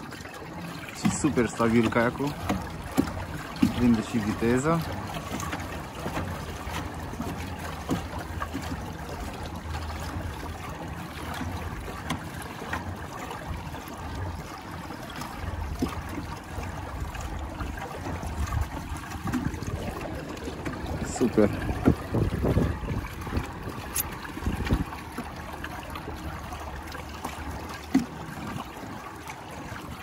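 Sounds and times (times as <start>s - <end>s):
water lapping along hull: 0.0s - 30.0s.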